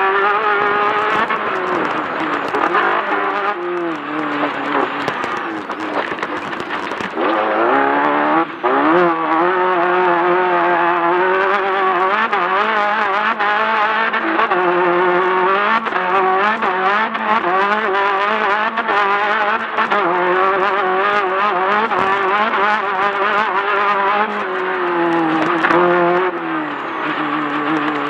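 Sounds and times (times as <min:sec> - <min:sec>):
race car engine at high revs: 0:00.0 - 0:28.0.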